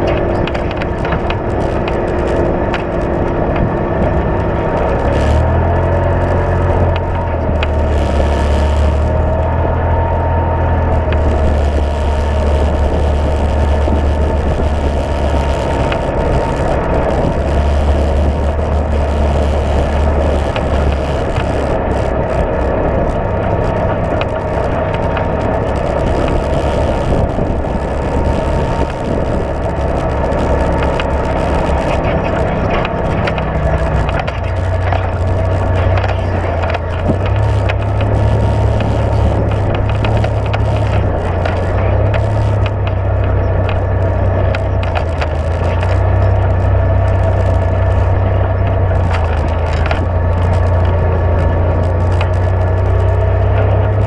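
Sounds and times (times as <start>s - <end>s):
utility vehicle engine running: 0.0s - 54.0s.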